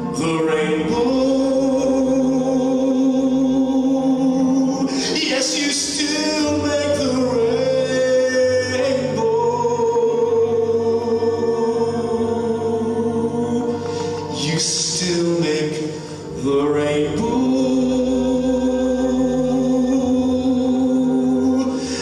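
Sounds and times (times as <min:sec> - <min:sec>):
backing music: 0:00.0 - 0:22.0
man singing into microphone: 0:00.0 - 0:22.0.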